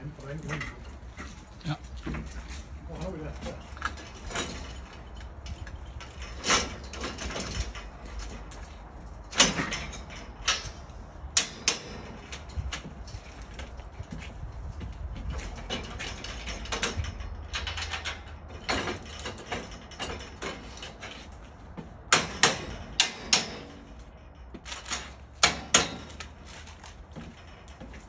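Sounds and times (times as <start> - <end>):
footsteps on metal deck: 0.0 - 28.0
metal scaffold parts clanking: 0.0 - 28.0.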